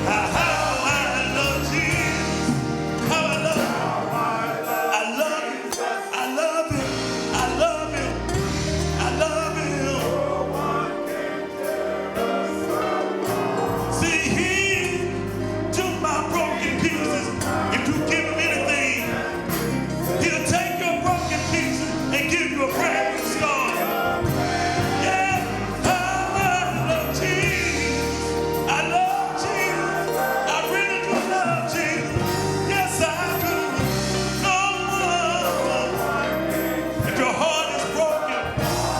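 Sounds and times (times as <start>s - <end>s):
steady bass: 0.0s - 4.2s, 6.8s - 10.6s, 13.6s - 30.8s, 31.6s - 38.9s
choir singing gospel music: 0.0s - 38.9s.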